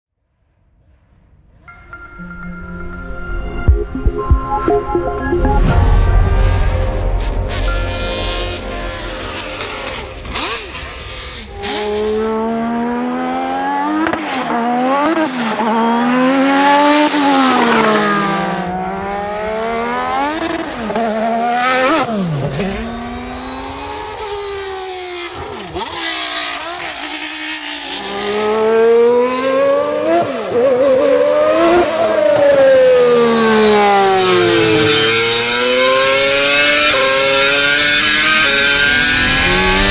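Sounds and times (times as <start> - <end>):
racing engines revving: 7.2 - 39.9.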